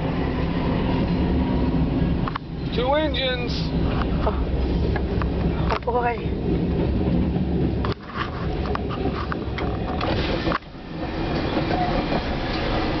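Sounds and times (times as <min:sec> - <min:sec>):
freight train rumble: 0:00.0 - 0:13.0
wheels clattering on rails: 0:00.0 - 0:13.0.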